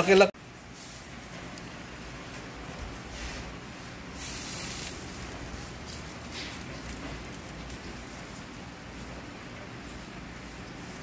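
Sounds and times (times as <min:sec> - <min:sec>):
meat sizzling in an oven: 0:00.4 - 0:11.0.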